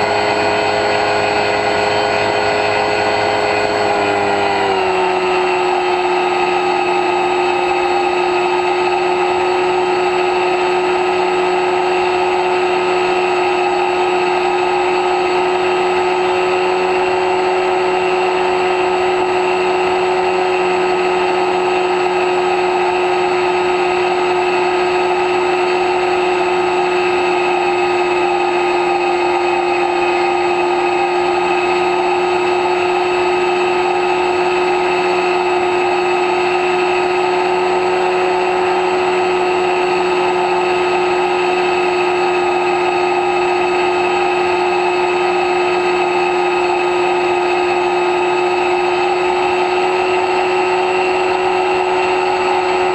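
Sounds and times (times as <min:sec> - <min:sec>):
electric motor high whine: 0:00.0 - 0:52.9.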